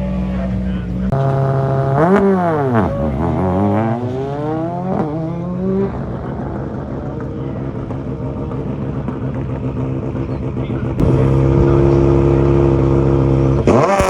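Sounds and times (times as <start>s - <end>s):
rally car accelerating: 0.0s - 14.0s.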